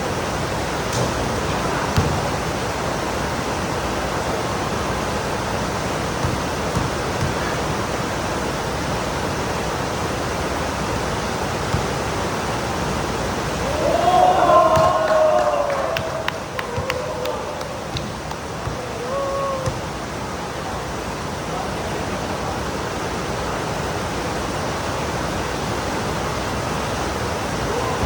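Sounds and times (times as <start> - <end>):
pouring rain hiss: 0.0 - 28.0.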